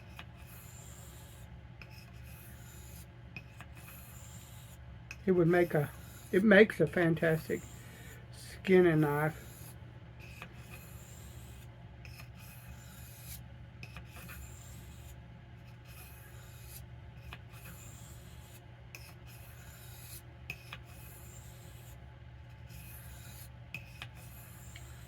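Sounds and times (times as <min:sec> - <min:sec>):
knife blade scraping on whetstone: 0:00.0 - 0:25.0.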